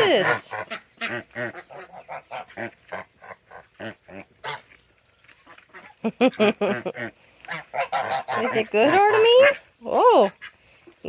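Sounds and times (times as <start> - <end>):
geese and ducks calling: 0.0 - 11.0.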